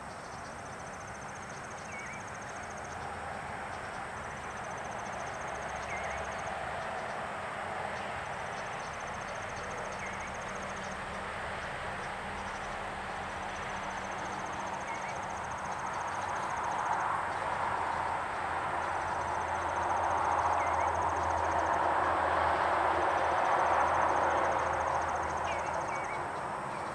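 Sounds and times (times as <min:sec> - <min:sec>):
distant traffic rumble: 0:00.0 - 0:26.9.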